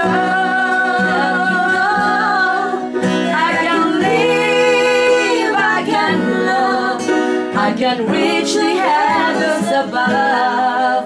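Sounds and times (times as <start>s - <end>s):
acoustic guitar: 0.0s - 11.0s
woman singing pop ballad: 0.0s - 11.0s.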